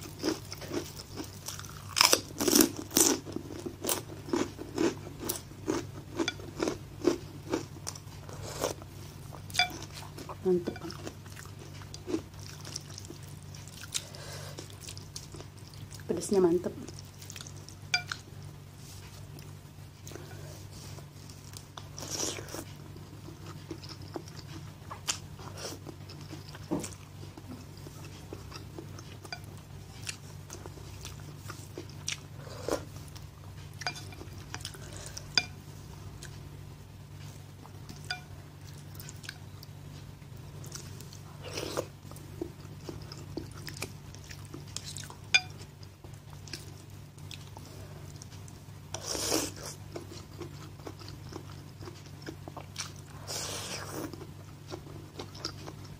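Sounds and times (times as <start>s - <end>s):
chewing: 0.0s - 16.1s, 16.8s - 35.6s, 37.1s - 55.9s
steady low hum: 0.0s - 55.9s.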